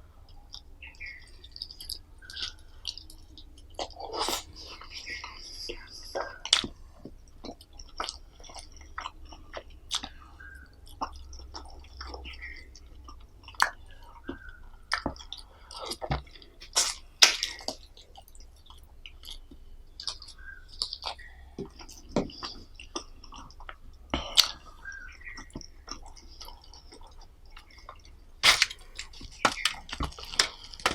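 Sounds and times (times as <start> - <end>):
chewing with wet mouth smacks: 0.2 - 30.9.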